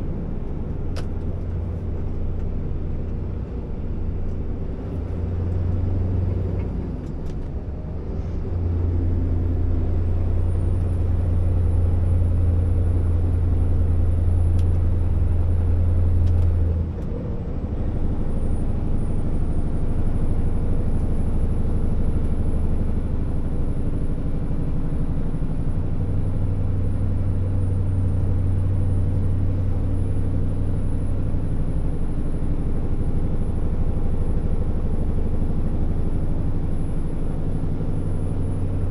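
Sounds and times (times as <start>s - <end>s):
diesel truck engine drone: 0.0s - 38.9s.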